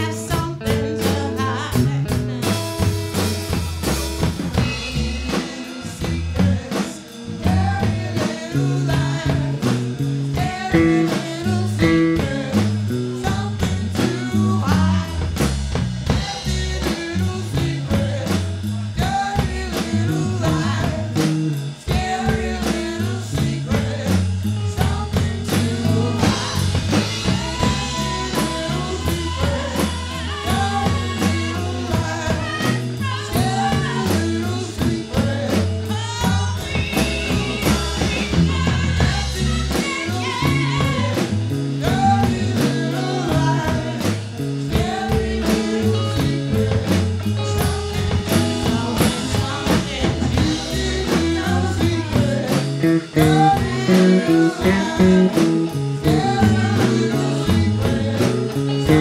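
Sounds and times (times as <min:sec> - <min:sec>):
women singing: 0:00.0 - 0:02.8, 0:04.6 - 0:15.5, 0:16.1 - 0:59.0
drum kit: 0:00.0 - 0:59.0
electric bass: 0:00.0 - 0:59.0
electric guitar: 0:00.0 - 0:59.0.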